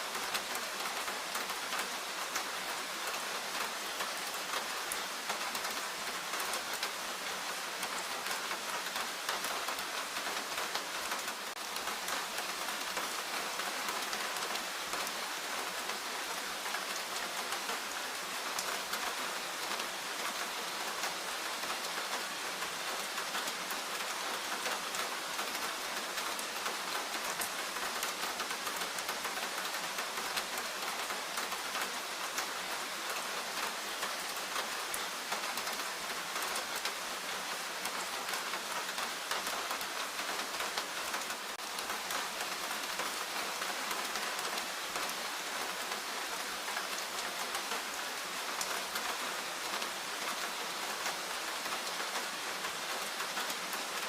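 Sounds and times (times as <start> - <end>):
rain falling in a forest: 0.0 - 54.0
raindrops pattering on surfaces: 0.0 - 54.0.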